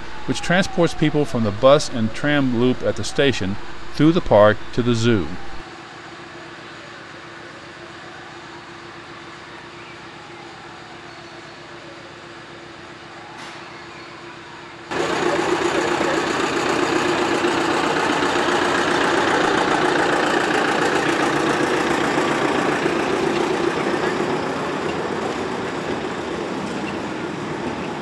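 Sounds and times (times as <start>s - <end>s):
diesel locomotive engine: 0.0s - 28.0s.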